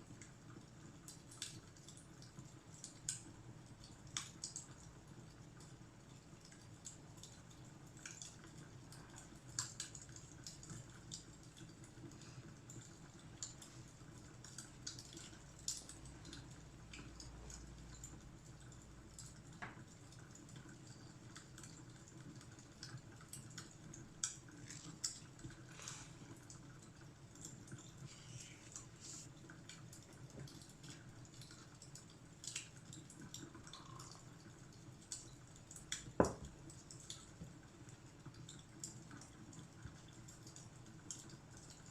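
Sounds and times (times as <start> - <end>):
fireplace crackling and popping: 0.0 - 41.9.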